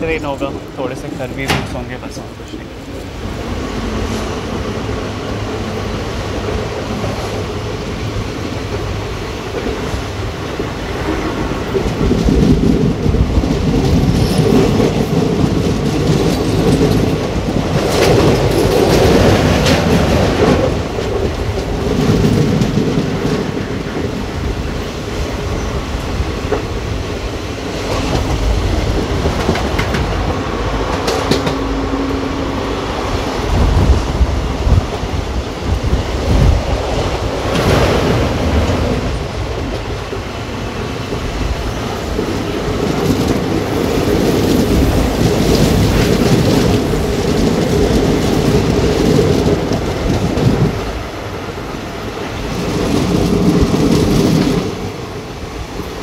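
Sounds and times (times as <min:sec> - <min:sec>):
clickety-clack of rail joints: 0:00.0 - 0:56.0
train wheels rumbling on rails: 0:00.0 - 0:56.0.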